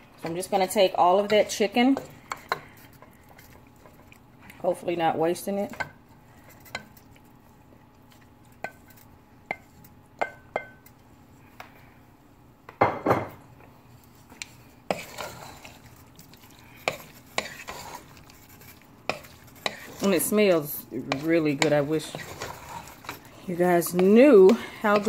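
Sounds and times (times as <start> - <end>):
spoon stirring and scraping: 0.2 - 11.7, 13.6 - 25.0.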